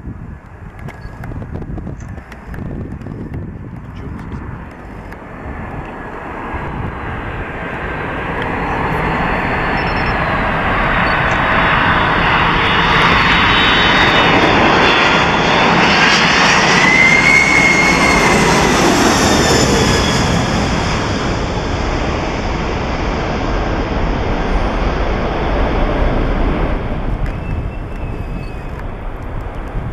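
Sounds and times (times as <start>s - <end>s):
jet airliner roar: 0.0s - 29.9s.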